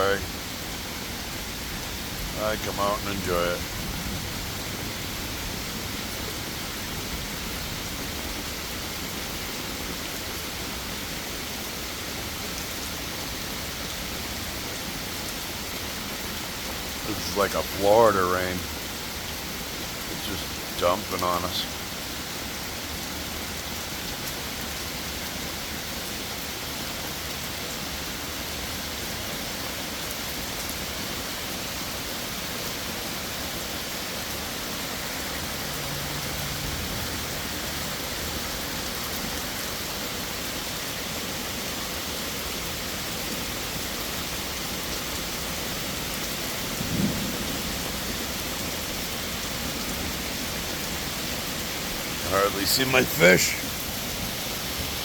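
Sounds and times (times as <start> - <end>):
heavy rain hissing: 0.0 - 55.0
small waterfalls running: 0.0 - 55.0.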